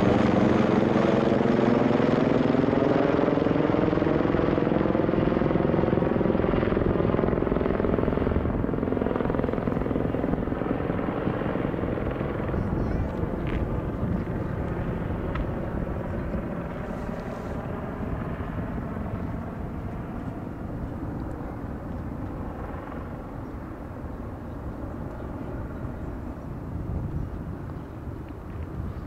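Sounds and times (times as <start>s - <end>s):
helicopter flying away: 0.0s - 29.0s.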